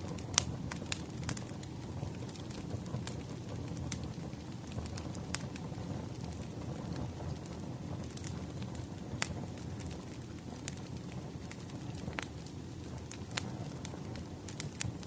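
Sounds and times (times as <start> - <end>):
sharp pops from fire: 0.0 - 15.0
wood fire crackling: 0.0 - 15.0.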